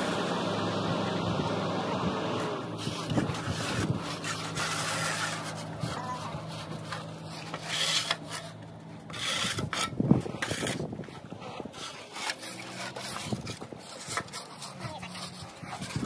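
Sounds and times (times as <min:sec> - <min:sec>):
shovel scraping snow off concrete: 0:02.8 - 0:16.0.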